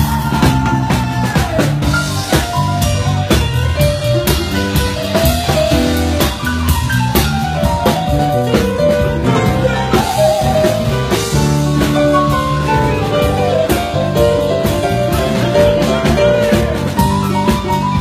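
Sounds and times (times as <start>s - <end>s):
band music: 0.0s - 18.0s
drum kit beat: 0.0s - 18.0s.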